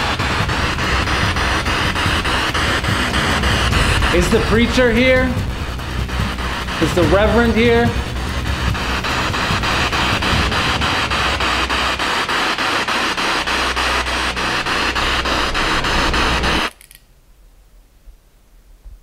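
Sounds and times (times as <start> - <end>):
radio static hiss: 0.0 - 16.7
rapid radio clicks: 0.0 - 16.9.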